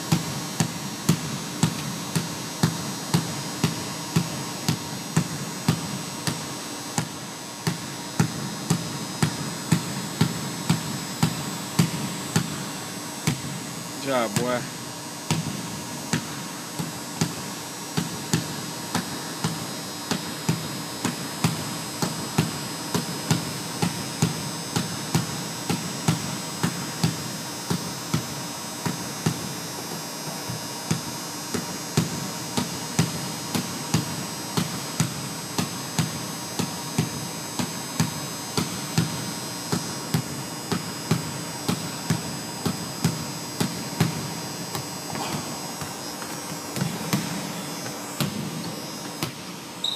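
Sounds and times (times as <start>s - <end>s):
basketball bouncing on wooden floor: 0.0s - 12.6s, 13.2s - 13.6s, 15.3s - 29.5s, 30.5s - 49.9s.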